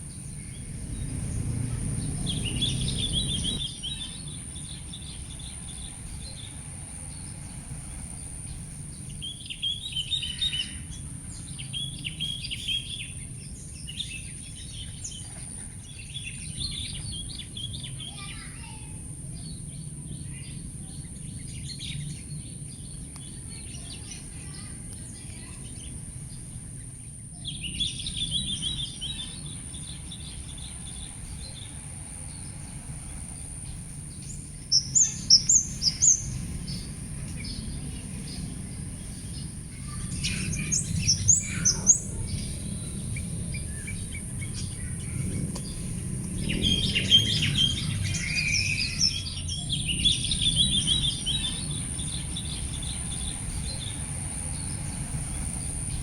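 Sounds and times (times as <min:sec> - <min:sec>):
low background rumble: 0:00.0 - 0:56.0
small birds chirping: 0:00.0 - 0:56.0.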